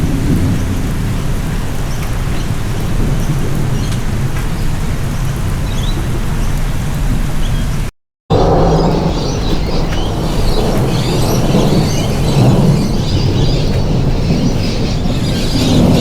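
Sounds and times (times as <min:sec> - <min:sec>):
heavy rain falling: 0:00.0 - 0:16.0
low rumble of thunder: 0:00.0 - 0:16.0.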